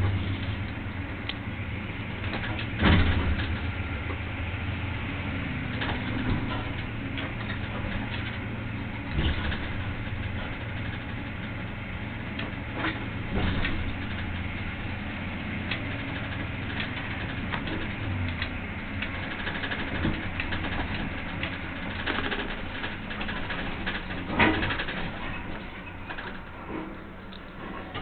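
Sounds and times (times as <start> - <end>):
engine running from inside cab: 0.0 - 28.0.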